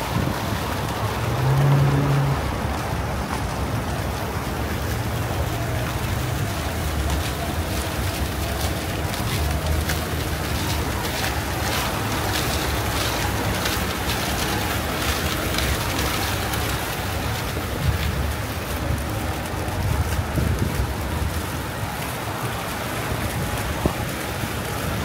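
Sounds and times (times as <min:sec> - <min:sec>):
constant street hiss: 0:00.0 - 0:25.0
traffic rumble: 0:00.0 - 0:25.0.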